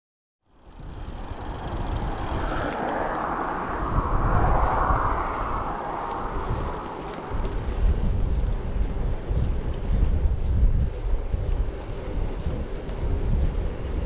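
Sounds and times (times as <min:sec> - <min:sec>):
rush of riding along road: 0:00.5 - 0:14.0
wind rumbling on microphone: 0:00.6 - 0:14.0.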